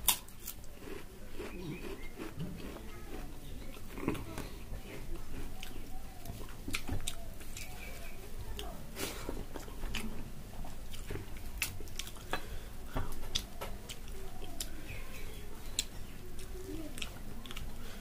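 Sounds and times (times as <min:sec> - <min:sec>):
person chewing food: 0:00.0 - 0:08.7, 0:09.4 - 0:18.0.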